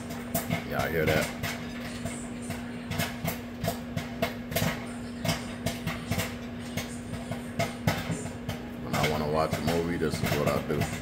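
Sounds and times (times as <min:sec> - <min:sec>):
microwave humming: 0:00.0 - 0:11.0
popcorn popping: 0:00.0 - 0:11.0.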